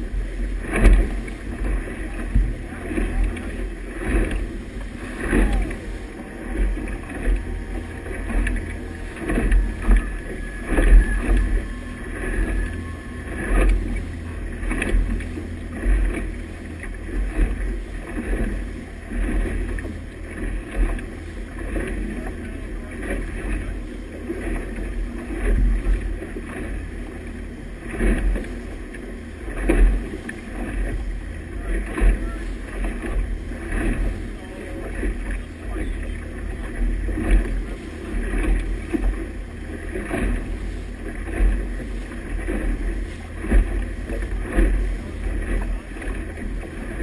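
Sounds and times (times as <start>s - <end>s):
boat wake rushing: 0.0s - 47.0s
wind buffeting microphone: 0.0s - 47.0s.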